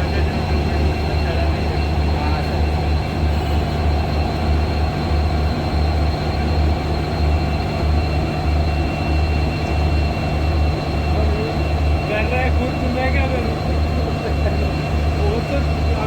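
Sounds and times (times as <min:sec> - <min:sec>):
diesel locomotives humming: 0:00.0 - 0:16.0.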